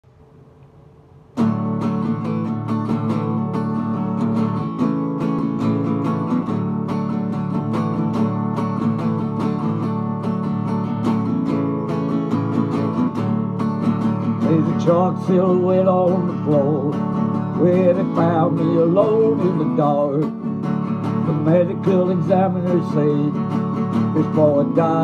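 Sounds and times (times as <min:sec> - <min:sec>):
acoustic guitar strumming: 0:01.2 - 0:25.0.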